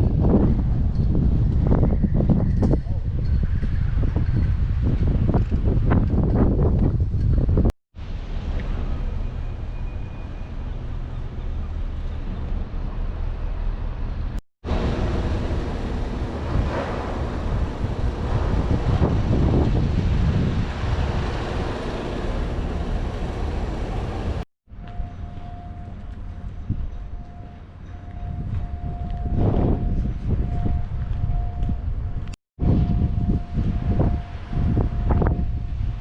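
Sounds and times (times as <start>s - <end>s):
wind buffeting microphone: 0.0s - 7.8s, 13.9s - 36.0s
outdoor ambience: 0.0s - 36.0s.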